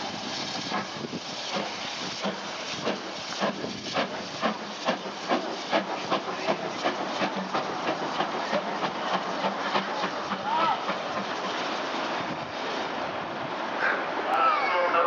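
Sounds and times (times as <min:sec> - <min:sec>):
steam locomotive exhaust beats: 0:00.0 - 0:14.2
steam hissing: 0:00.0 - 0:14.3.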